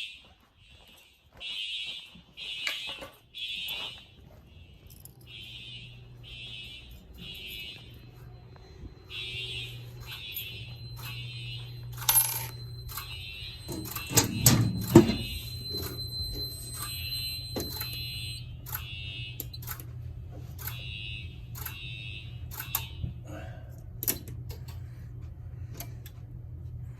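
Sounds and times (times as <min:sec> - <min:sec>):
fire alarm horns blasting: 0:00.0 - 0:23.4.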